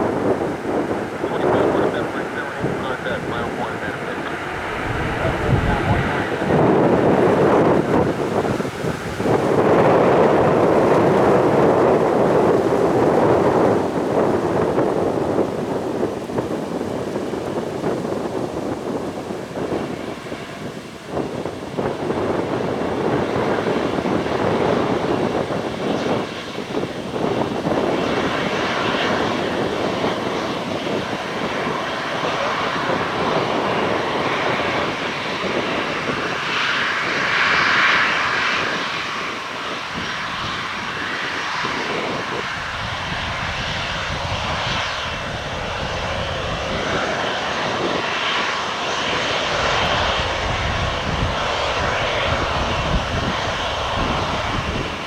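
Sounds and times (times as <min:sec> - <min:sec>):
aircraft engines rushing: 0:00.0 - 0:55.0.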